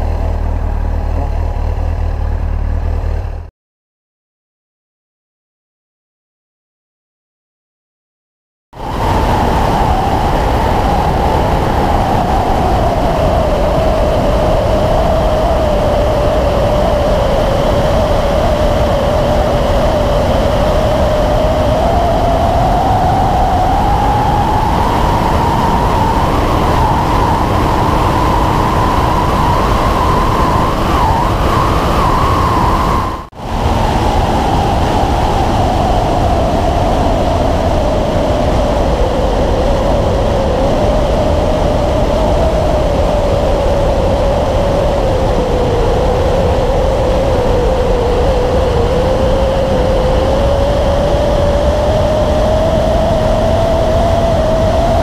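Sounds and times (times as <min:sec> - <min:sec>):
motorcycle engine whine: 0:00.0 - 0:03.5, 0:08.8 - 0:55.0
wind rush: 0:08.8 - 0:55.0.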